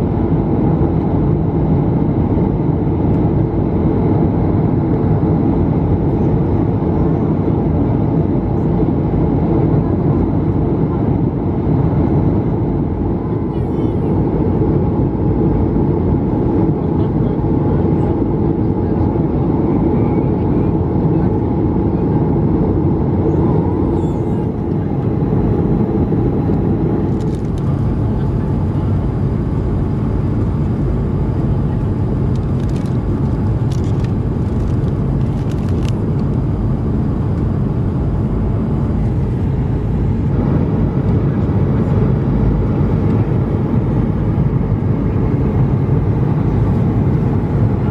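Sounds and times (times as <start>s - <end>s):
airplane cabin noise: 0.0s - 47.9s.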